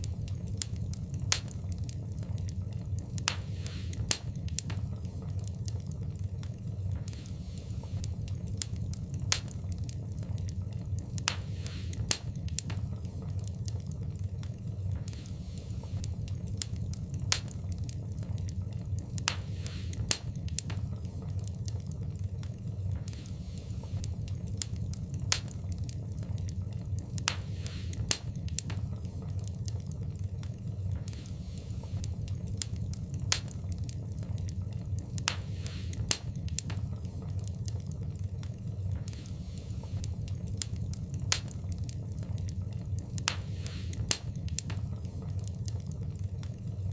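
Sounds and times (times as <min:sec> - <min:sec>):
fire burning in fireplace: 0:00.0 - 0:46.9
loud fire pops: 0:00.0 - 0:46.9.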